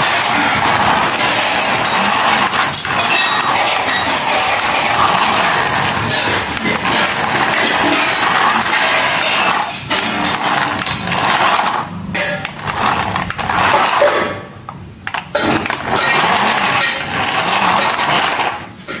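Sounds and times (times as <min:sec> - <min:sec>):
toy car motor on hard floor: 0:00.0 - 0:19.0.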